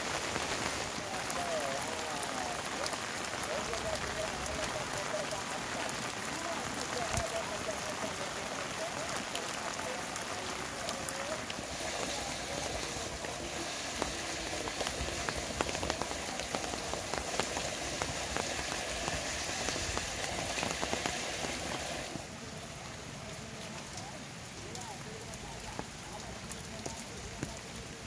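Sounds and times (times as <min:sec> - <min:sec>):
sharp rain drop hits: 0:00.0 - 0:22.7
heavy rain: 0:00.0 - 0:28.0.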